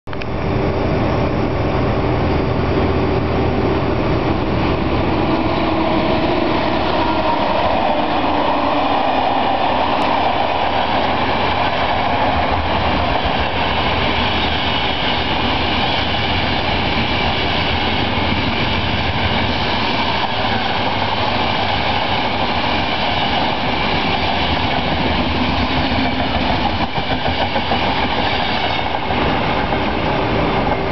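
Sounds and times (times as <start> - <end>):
train wheels rumbling on rails: 0.1 - 30.9
train clickety-clack: 4.1 - 30.9.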